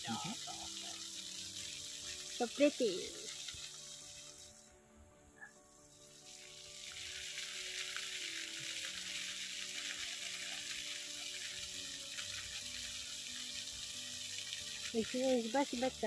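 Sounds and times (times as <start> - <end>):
fountain jets spraying and splashing: 0.0 - 4.7, 5.9 - 16.0.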